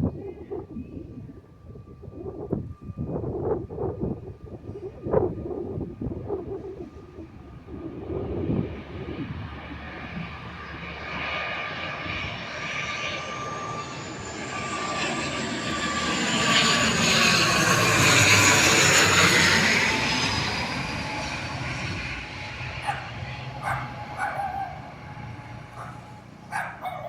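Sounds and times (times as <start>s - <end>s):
turboprop airliner passing by: 0.0s - 27.0s.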